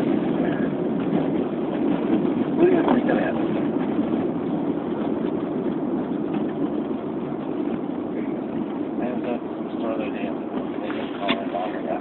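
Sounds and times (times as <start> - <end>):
car engine: 0.0 - 12.0
road noise inside car: 0.0 - 12.0.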